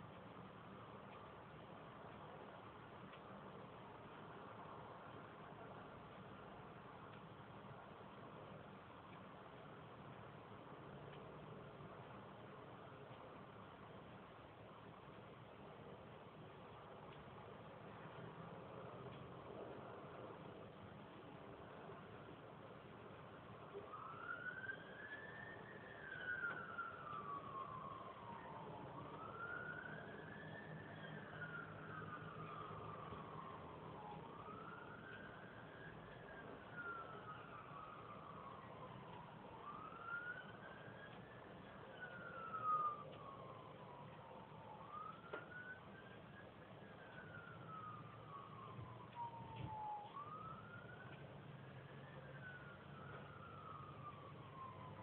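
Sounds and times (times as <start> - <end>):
faint siren wailing: 0.0 - 55.0.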